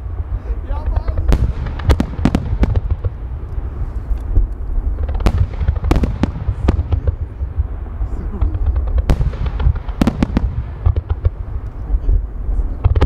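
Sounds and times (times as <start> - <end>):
fireworks cracking bangs: 0.0 - 13.0
fireworks rumbling: 0.0 - 13.0.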